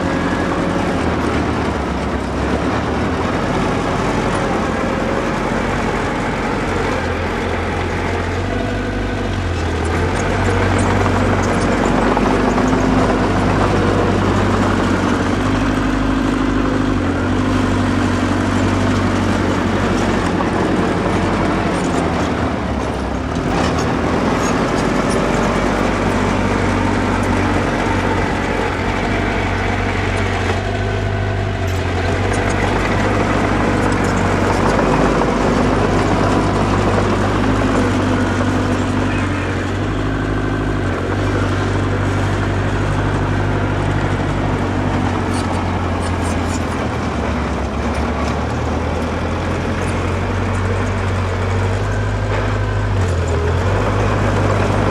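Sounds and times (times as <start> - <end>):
heavy machinery diesel engine: 0.0 - 54.9.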